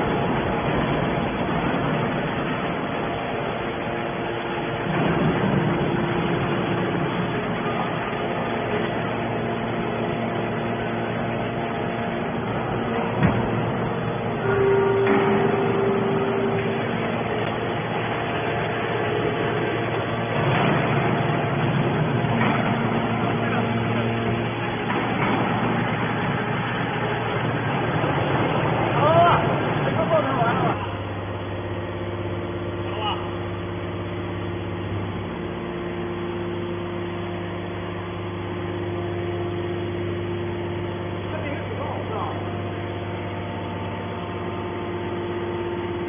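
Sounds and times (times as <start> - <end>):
baler machine noise: 0.0 - 46.0
mechanical noise haze: 0.0 - 46.0.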